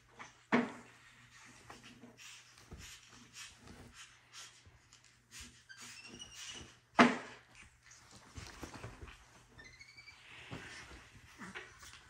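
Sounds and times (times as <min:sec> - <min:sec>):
soft rustling of bedding: 0:00.0 - 0:12.0.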